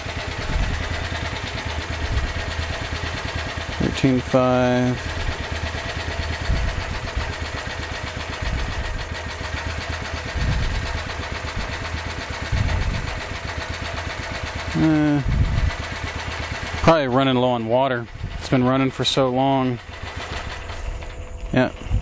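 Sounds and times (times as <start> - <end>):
small generator engine rumbling: 0.0 - 22.0.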